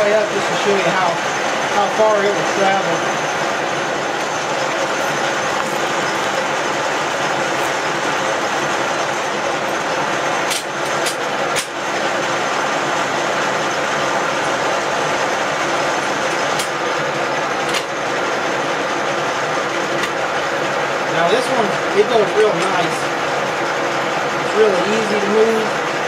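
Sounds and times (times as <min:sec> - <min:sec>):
milling machine whirring: 0:00.0 - 0:26.0.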